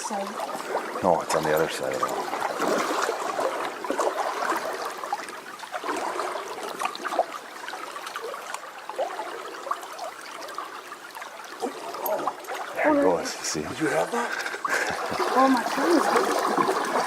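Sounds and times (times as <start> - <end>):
stream babbling: 0.0 - 17.0.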